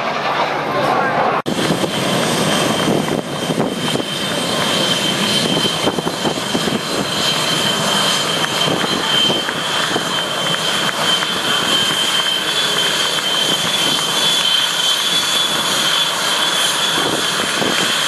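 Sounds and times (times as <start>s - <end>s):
jet engines rushing and whining: 0.0s - 18.0s.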